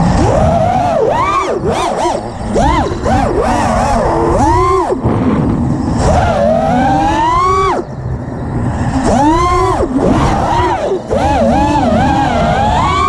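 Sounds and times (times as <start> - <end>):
drone motors whining: 0.0 - 13.0
wind rush on microphone: 0.0 - 13.0.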